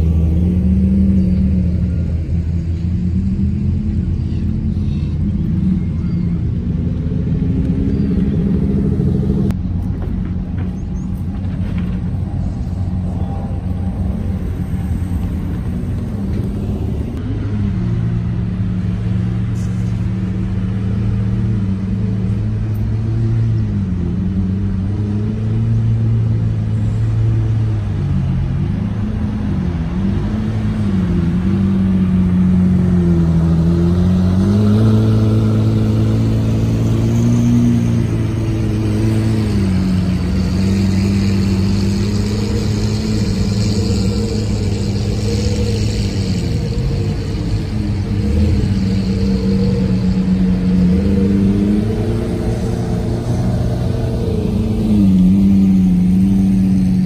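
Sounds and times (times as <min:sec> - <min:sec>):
car engines running at low speed: 0:00.0 - 0:57.0.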